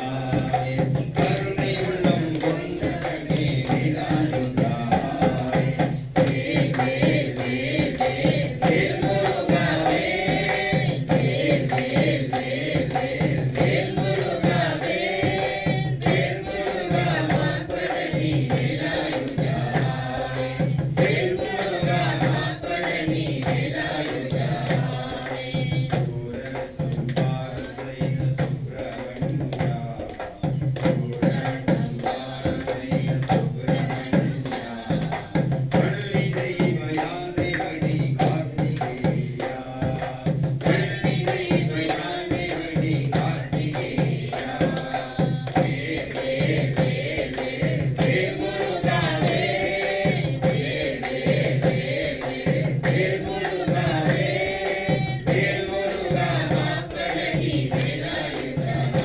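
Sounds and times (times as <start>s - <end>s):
drums beating steady rhythm: 0.0s - 59.0s
mantra chanting: 0.0s - 59.0s.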